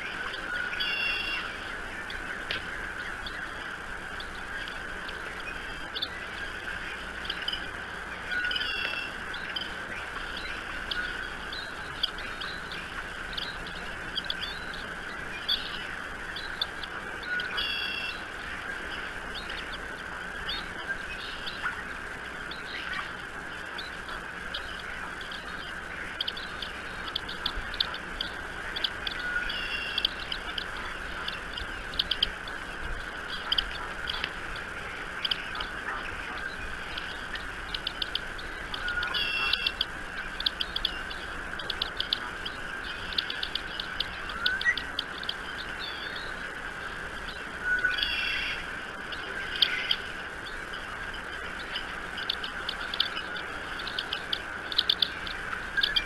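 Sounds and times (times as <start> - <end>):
background hum: 0.0 - 56.0
birds chirping and trilling: 0.0 - 56.0.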